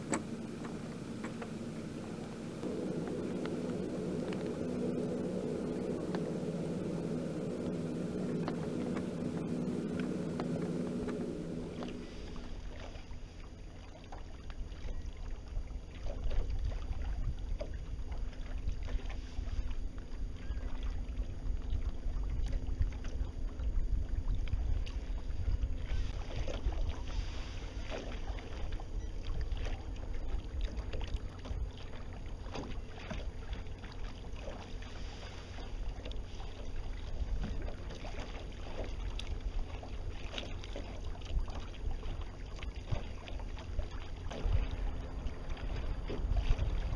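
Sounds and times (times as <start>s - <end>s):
wind rumble on microphone: 0.0s - 13.4s, 14.4s - 46.9s
steady hum: 0.0s - 46.9s
water splashing against hull: 0.0s - 46.9s.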